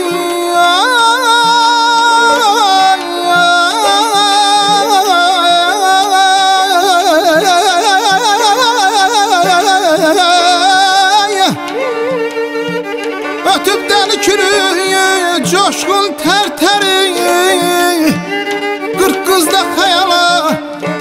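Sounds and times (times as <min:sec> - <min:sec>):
ornamented melody with vibrato: 0:00.0 - 0:21.0.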